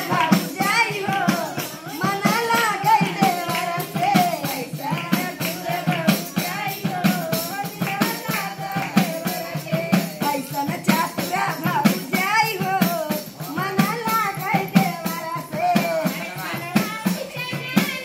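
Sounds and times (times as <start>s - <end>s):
hand clapping: 0.0s - 12.2s, 12.8s - 18.0s
frame drum beat: 0.0s - 18.0s
women singing: 0.0s - 18.0s.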